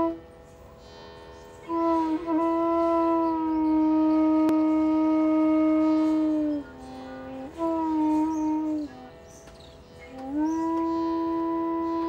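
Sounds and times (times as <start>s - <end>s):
solo flute: 0.0s - 0.3s, 1.6s - 12.0s.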